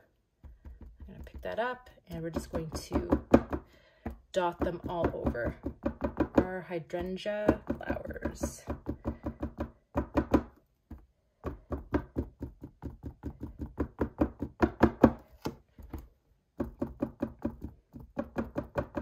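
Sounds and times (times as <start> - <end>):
cotton swabs tapping on canvas: 0.4 - 19.0.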